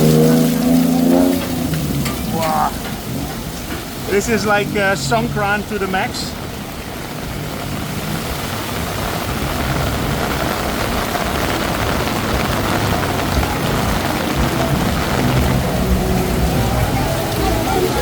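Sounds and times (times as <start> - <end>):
heavy rain pouring: 0.0 - 18.0
traffic engine hum: 0.0 - 18.0.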